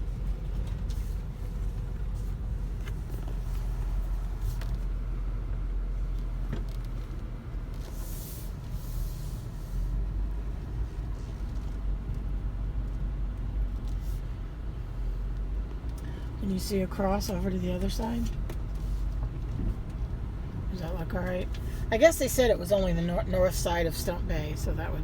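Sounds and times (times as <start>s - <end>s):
road and engine rumble in car: 0.0s - 25.0s.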